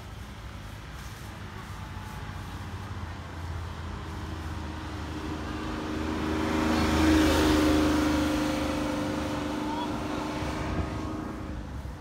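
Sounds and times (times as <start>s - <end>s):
sports car engine rumbling: 0.0s - 12.0s.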